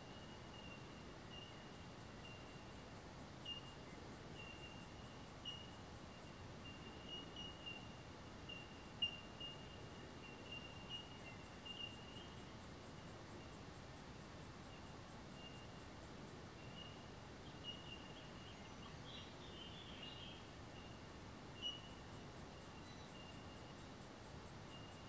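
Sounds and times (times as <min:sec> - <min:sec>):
faint insect chirping: 0:00.0 - 0:25.0.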